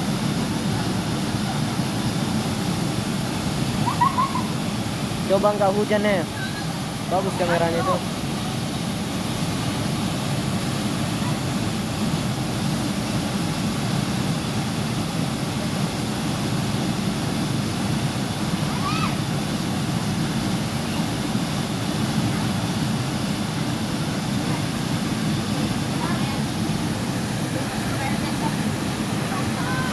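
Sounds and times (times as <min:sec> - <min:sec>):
waterfall roaring: 0:00.0 - 0:29.9.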